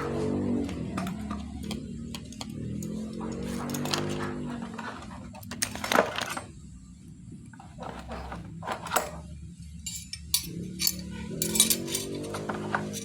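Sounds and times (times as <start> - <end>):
metallic clinks and rattles: 0.0 - 6.5, 8.8 - 13.0.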